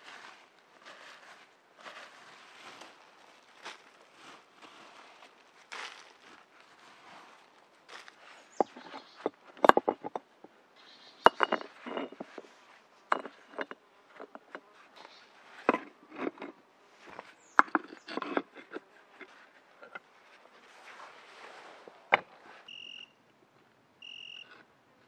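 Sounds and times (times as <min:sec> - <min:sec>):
rocks knocking and scraping: 0:00.0 - 0:22.4.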